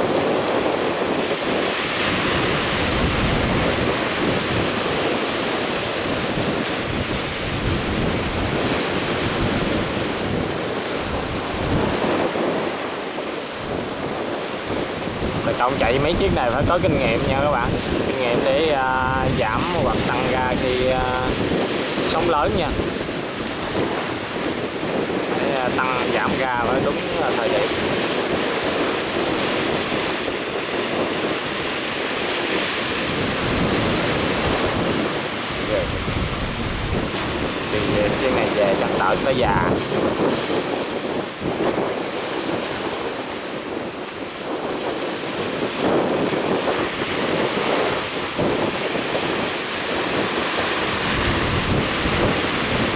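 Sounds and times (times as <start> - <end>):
rough sea and waves: 0.0 - 52.9
wind buffeting microphone: 0.0 - 52.9.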